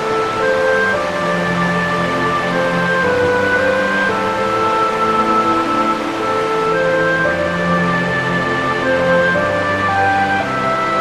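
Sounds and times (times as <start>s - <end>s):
slow held chords: 0.0s - 11.0s.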